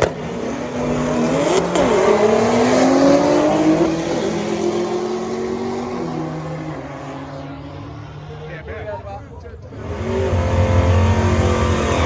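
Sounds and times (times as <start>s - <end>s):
drag racing car accelerating: 0.0s - 8.8s, 9.4s - 12.0s.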